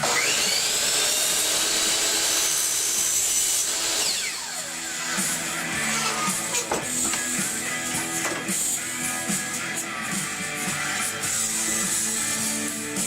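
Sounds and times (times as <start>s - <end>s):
power tool cutting wood: 0.0s - 13.0s.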